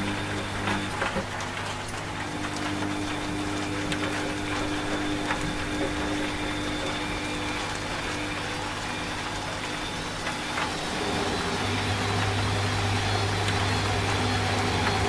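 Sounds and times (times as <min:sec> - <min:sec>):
rain hiss and drop ticks: 0:00.0 - 0:15.0
washing machine motor hum: 0:00.0 - 0:15.0.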